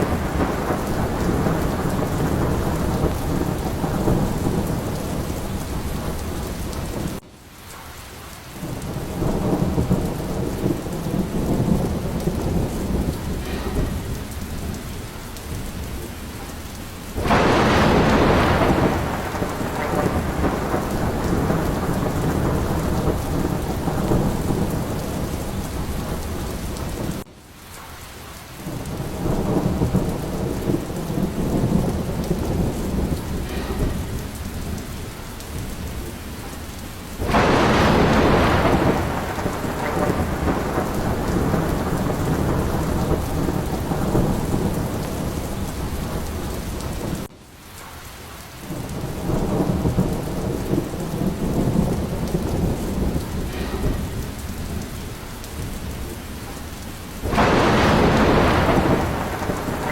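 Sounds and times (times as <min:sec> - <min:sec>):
loud thunderclap: 0:00.0 - 0:07.2, 0:08.6 - 0:27.3, 0:28.6 - 0:47.3, 0:48.7 - 0:59.9
heavy rain: 0:00.0 - 0:59.9
thunder rumbling: 0:00.0 - 0:59.9.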